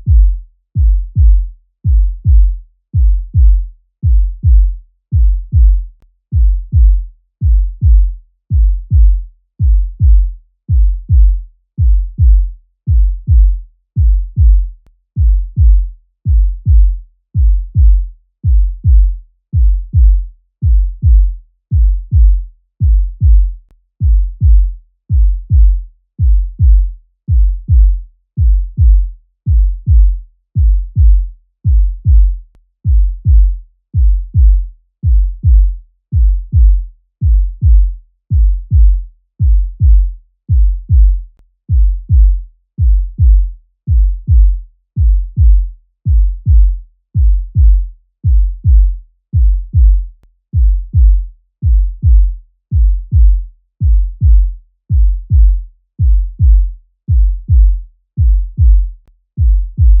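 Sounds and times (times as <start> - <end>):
heartbeat thumps: 0.0 - 60.0.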